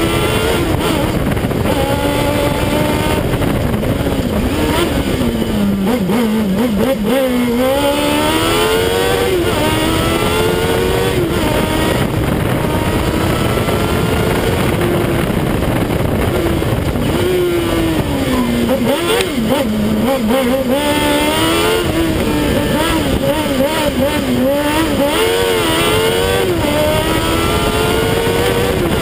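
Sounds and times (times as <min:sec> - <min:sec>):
motorcycle engine revving hard: 0:00.0 - 0:29.0
wind and road noise: 0:00.0 - 0:29.0.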